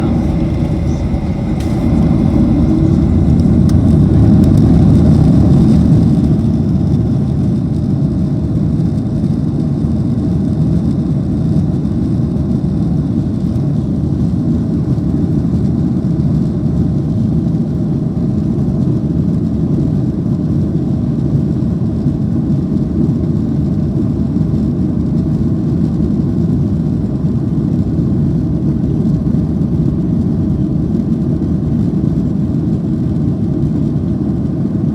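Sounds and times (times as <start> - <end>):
jet engines rumbling from cabin: 0.0 - 34.9.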